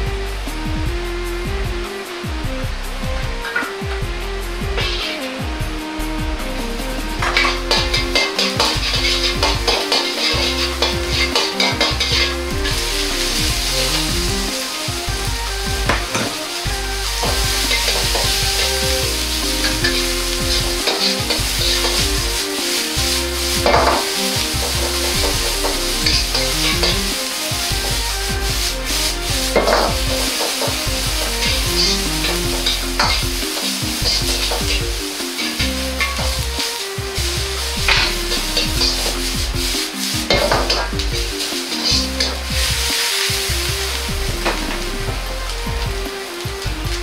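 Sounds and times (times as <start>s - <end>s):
ladle scraping wok: 6.0s - 47.0s
vegetables sizzling in hot oil: 6.7s - 47.0s.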